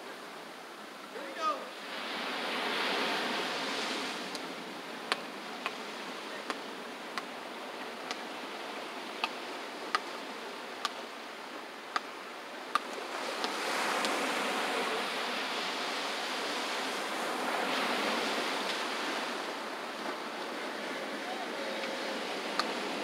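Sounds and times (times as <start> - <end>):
ocean surf washing in: 0.0 - 23.0.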